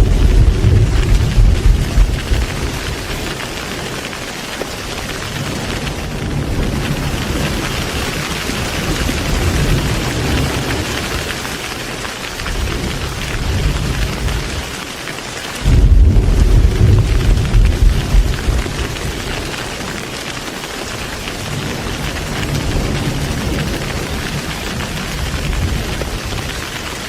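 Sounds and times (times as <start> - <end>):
thunder rumbling: 0.0 - 14.8, 15.6 - 27.0
heavy rain falling: 0.0 - 27.0.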